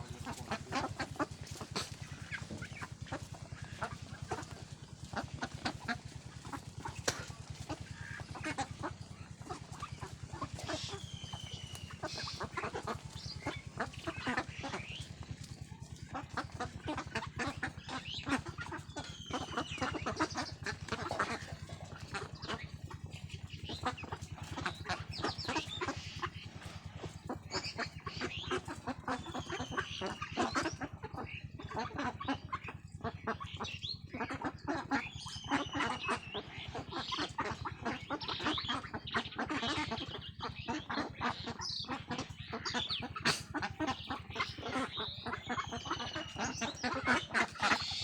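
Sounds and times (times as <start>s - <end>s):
ducks chattering calls: 0.0s - 48.0s
steady low hum: 0.0s - 48.0s.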